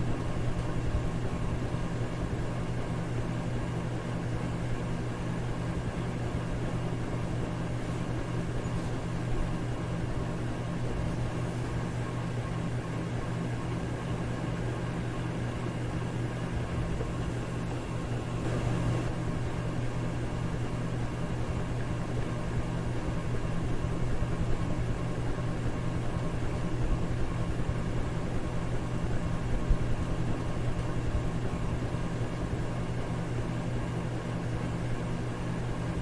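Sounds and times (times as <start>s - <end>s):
electric fan running: 0.0s - 36.0s.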